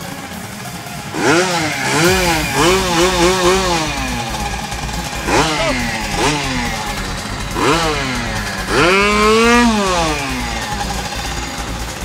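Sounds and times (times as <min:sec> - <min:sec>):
moped engine idling and revving: 0:00.0 - 0:12.0.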